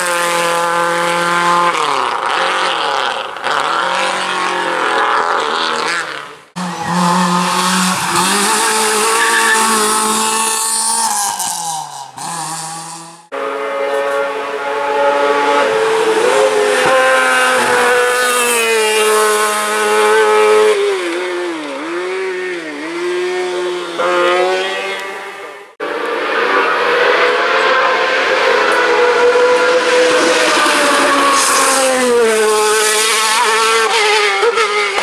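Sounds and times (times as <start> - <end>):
race car engine at high revs: 0.0 - 35.0.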